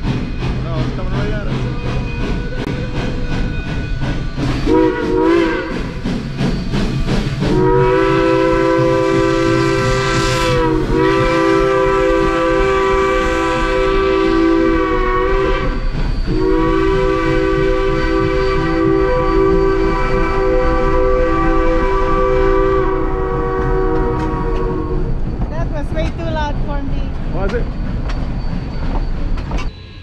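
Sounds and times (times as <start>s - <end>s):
steam locomotive chime whistle: 0.0s - 25.2s, 28.4s - 30.0s
steam locomotive exhaust chuffs: 0.0s - 30.0s.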